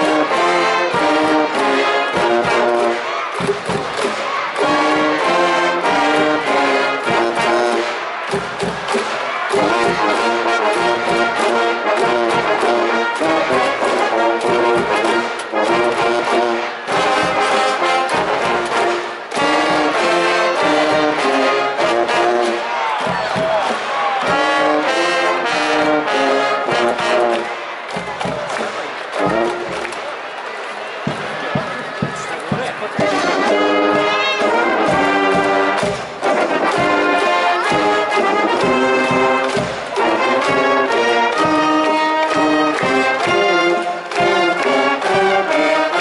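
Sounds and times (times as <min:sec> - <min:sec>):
brass band playing: 0:00.0 - 0:46.0.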